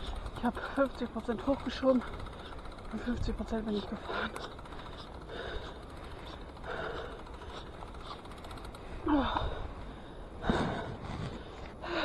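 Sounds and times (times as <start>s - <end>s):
person breathing hard: 2.1s - 12.0s.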